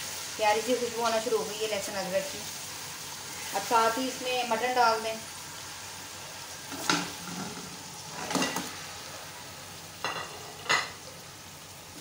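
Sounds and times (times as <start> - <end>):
oil sizzling in a pot: 0.0 - 12.0.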